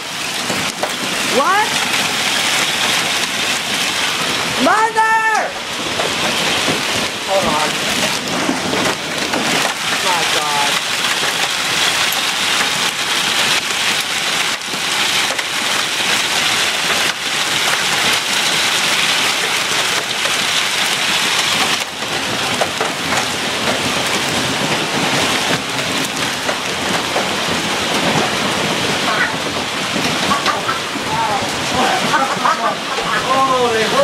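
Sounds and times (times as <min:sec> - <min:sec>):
hail clattering on hard surfaces: 0:00.0 - 0:34.0.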